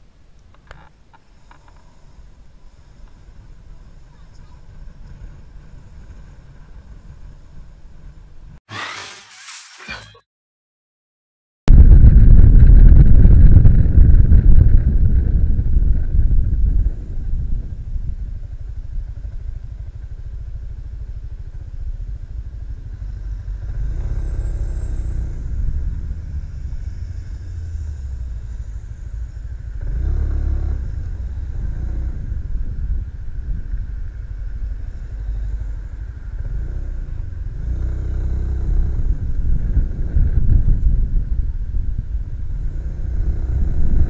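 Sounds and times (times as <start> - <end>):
motorcycle engine rumbling: 0.0 - 8.6, 11.8 - 44.0.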